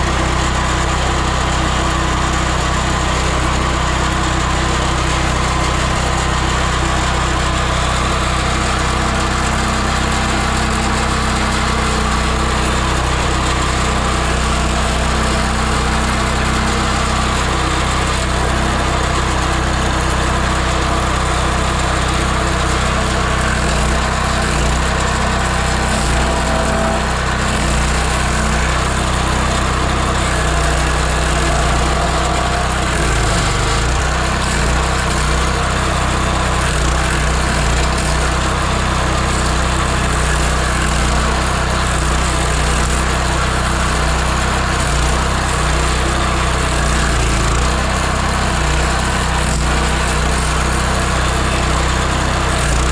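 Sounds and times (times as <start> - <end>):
stump grinder engine running: 0.0 - 52.9.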